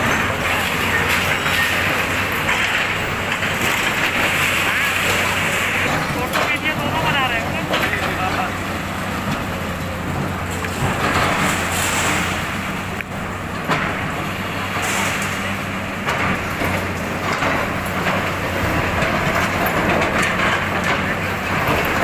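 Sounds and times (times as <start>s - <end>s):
concrete crunching and debris clattering: 0.0s - 22.0s
diesel excavator engines running: 0.0s - 22.0s.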